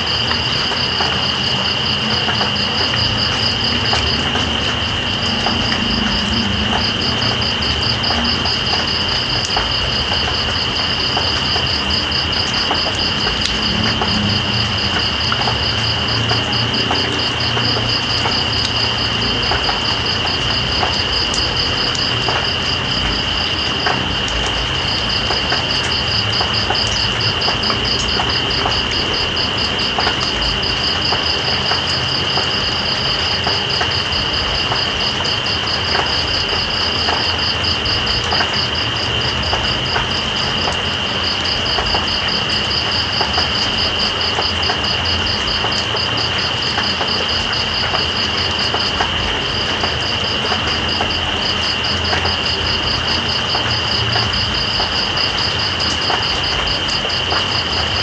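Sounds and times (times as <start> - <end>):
rain falling: 0.0 - 58.0
raindrops ticking: 0.0 - 58.0.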